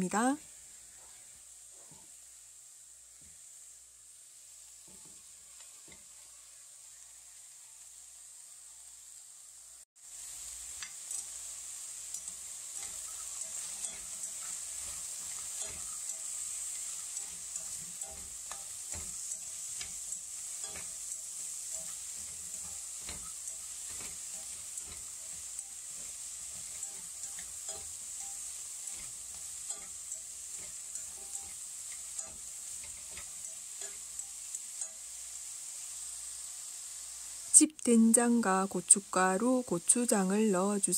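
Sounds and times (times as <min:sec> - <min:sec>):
food sizzling in a pot: 0:00.0 - 0:40.9.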